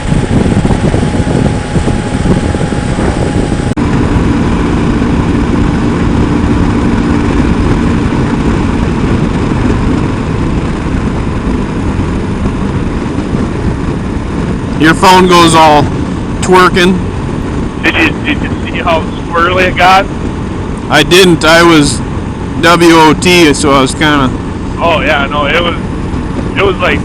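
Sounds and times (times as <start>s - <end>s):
motorcycle engine at speed: 0.0s - 27.0s
wind rush: 0.0s - 27.0s.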